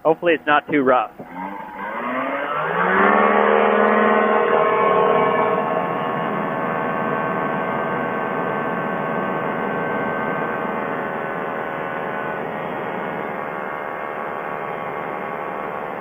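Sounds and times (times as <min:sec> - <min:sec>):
light aircraft engine and propeller: 0:01.2 - 0:16.0.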